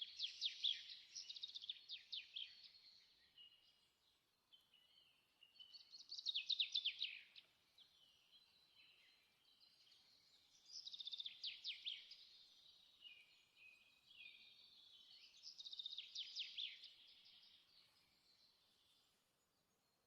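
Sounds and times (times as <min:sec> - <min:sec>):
songbird chirping trills: 0:00.0 - 0:20.0.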